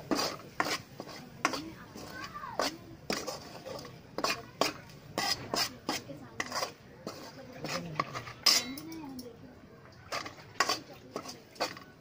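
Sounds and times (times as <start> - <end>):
ladle scraping metal pan: 0.0 - 9.0, 10.0 - 12.0.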